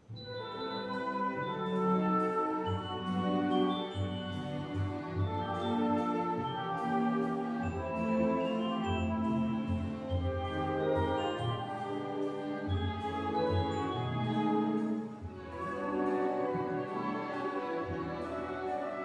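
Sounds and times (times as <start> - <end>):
orchestra playing: 0.0 - 19.0.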